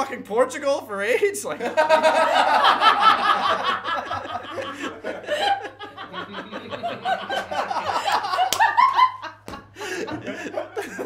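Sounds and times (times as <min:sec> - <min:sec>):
people laughing: 0:01.5 - 0:11.0.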